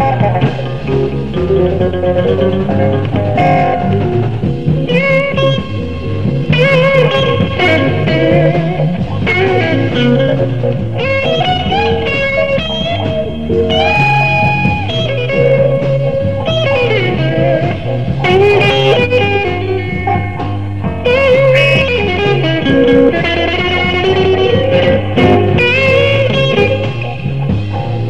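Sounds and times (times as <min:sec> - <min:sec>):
drums: 0:00.0 - 0:28.0
electric bass: 0:00.0 - 0:28.0
electric guitar lead: 0:00.0 - 0:28.0.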